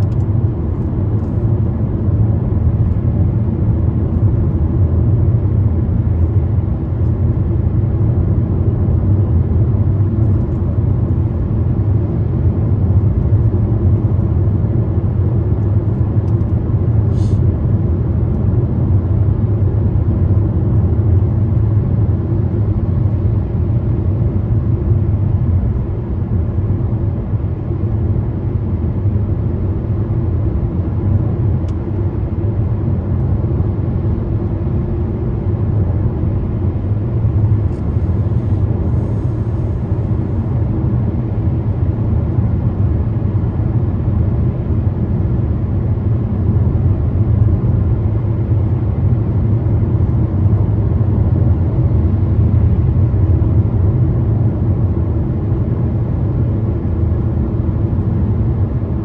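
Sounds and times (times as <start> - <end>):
car driving at motorway speed: 0.0 - 59.0.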